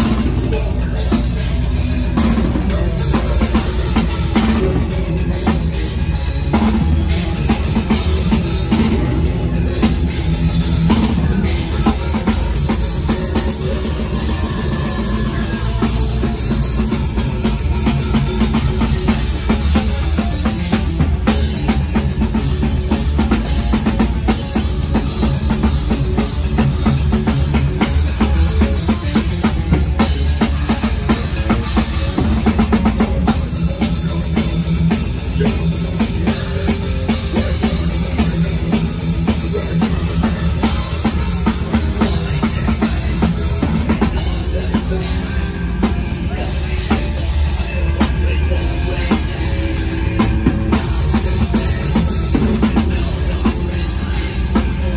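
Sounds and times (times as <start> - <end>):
death metal band playing live: 0.0 - 54.9
distorted electric guitar: 0.0 - 54.9
fast drumming: 0.0 - 54.9.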